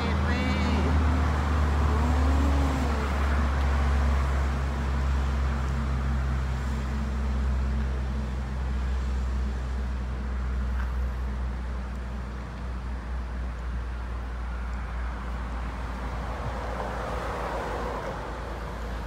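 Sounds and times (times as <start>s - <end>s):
slowly moving car rumble: 0.0s - 19.0s.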